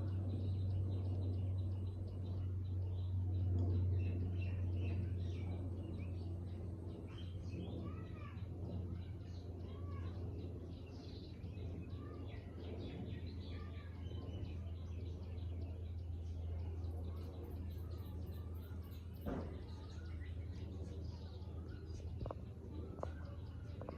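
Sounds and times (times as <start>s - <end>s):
low hum: 0.0s - 23.9s
songbirds chirping: 0.0s - 23.9s.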